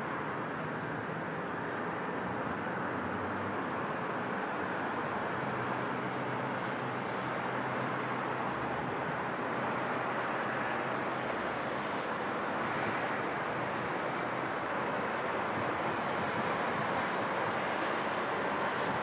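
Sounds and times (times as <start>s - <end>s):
distant city traffic: 0.0s - 19.0s.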